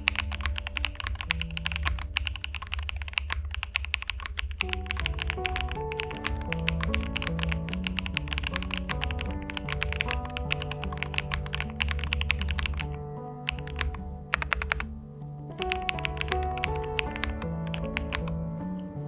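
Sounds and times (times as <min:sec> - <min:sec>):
fast typing on mechanical keyboard: 0:00.0 - 0:14.9, 0:15.6 - 0:18.6
background music: 0:00.0 - 0:19.0.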